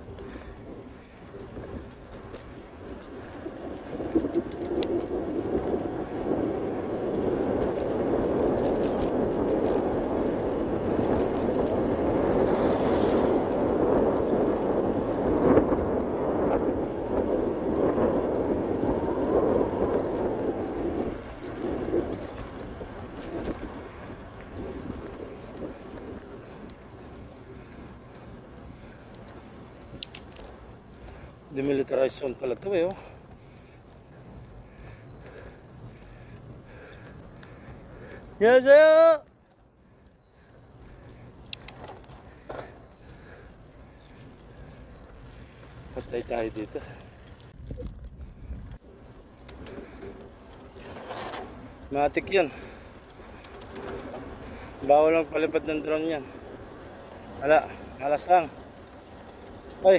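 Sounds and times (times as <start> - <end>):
bicycle wind rush and road noise: 0.0 - 59.9.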